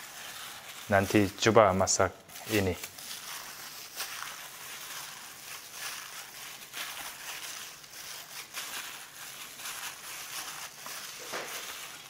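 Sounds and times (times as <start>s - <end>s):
plastic glove crinkling: 0.0s - 12.0s
wet squishing of meat: 0.0s - 12.0s.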